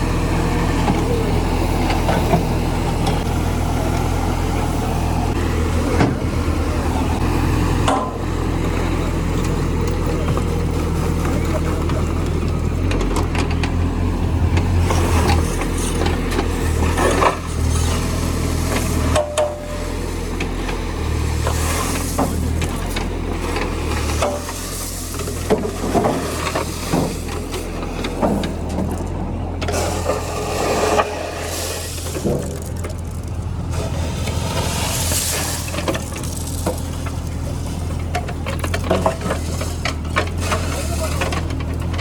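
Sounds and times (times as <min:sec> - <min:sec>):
diesel engine running: 0:00.0 - 0:42.0
knocks clanks and scrapes: 0:00.4 - 0:42.0.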